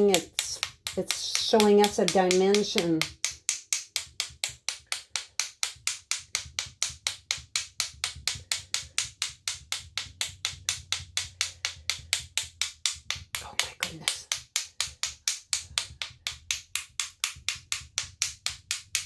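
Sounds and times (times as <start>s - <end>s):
paintbrush tapping: 0.0s - 19.0s.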